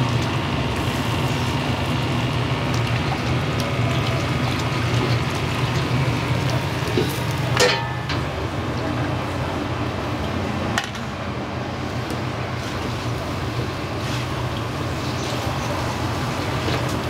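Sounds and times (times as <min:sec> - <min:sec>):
kitchen roar: 0:00.0 - 0:17.0.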